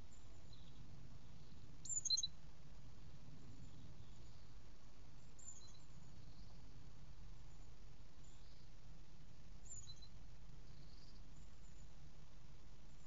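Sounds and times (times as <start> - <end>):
background hiss: 0.0 - 13.0
songbirds chirping: 0.0 - 13.0.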